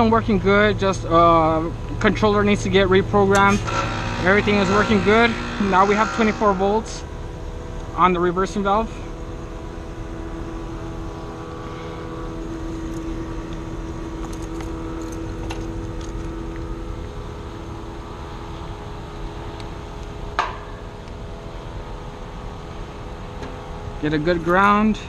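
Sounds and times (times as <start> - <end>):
heat pump unit humming: 0.0 - 25.0.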